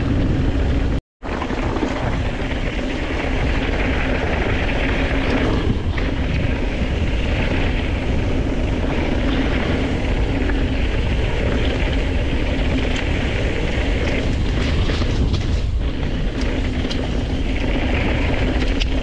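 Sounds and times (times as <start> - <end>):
mountain bike rolling rumble: 0.0 - 19.0
wind noise on microphone: 0.0 - 19.0.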